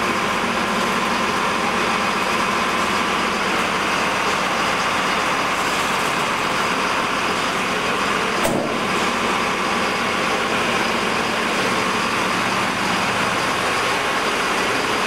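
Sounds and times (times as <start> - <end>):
fire engine engine running: 0.0 - 15.0.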